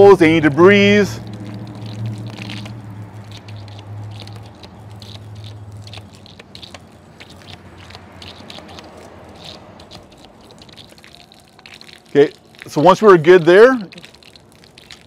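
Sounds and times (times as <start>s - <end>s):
water spattering: 0.0s - 15.0s
water spitting from spray wand: 0.0s - 15.0s.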